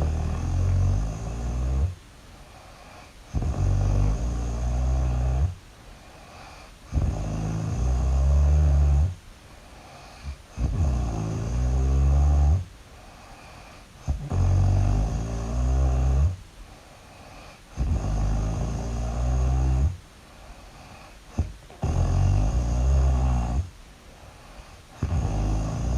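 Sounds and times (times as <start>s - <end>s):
loud snoring: 0.0s - 2.0s, 2.6s - 5.6s, 6.2s - 9.2s, 9.8s - 12.7s, 13.3s - 16.4s, 17.2s - 20.0s, 20.8s - 23.7s, 24.5s - 25.9s
quiet breaths: 0.0s - 25.9s.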